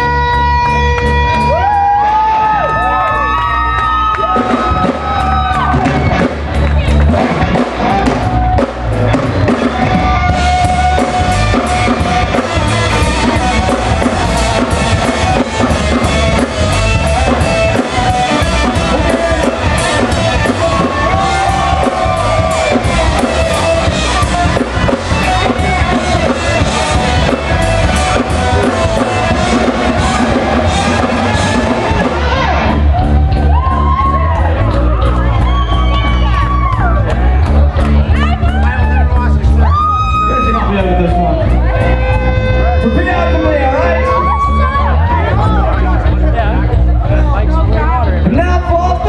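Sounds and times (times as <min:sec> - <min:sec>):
electric guitar lead notes: 0:00.0 - 0:03.6, 0:04.3 - 0:49.0
drum kit pounding: 0:00.0 - 0:49.0
rock band playing: 0:00.0 - 0:49.0.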